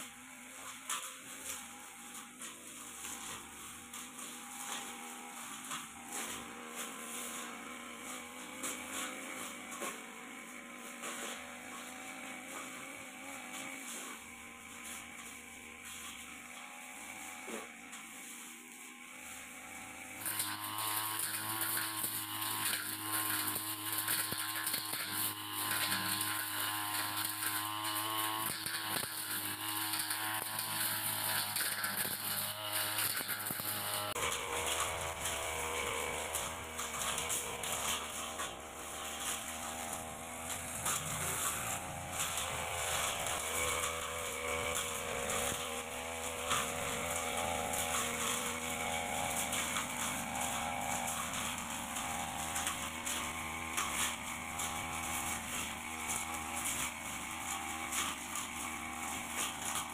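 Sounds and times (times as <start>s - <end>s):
blade cutting through grass: 0.0s - 59.9s
brush cutter engine running: 0.0s - 59.9s.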